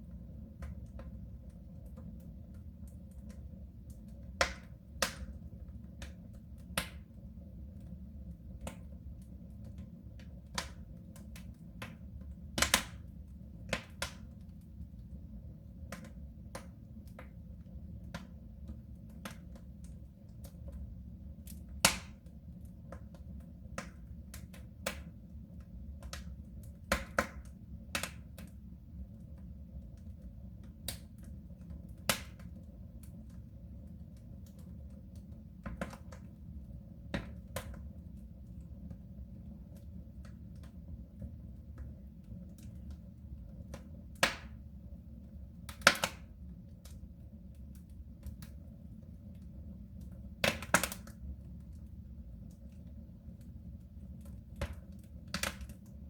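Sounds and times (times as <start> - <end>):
low rumble of stove: 0.0 - 56.0
wood fire crackling: 0.0 - 56.0.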